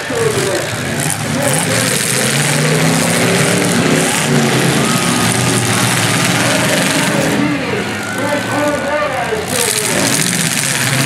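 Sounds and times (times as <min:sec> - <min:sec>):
car engines running and revving: 0:00.0 - 0:11.0.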